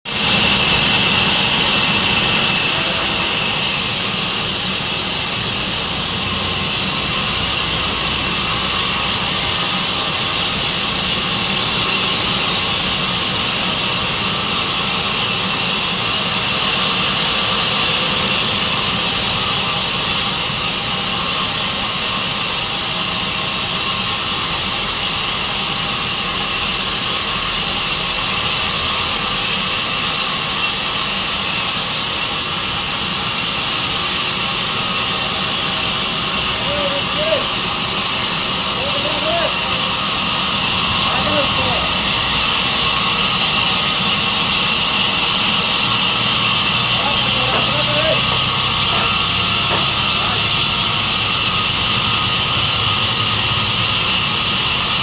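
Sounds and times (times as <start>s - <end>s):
sawmill saw running: 0.0s - 55.0s.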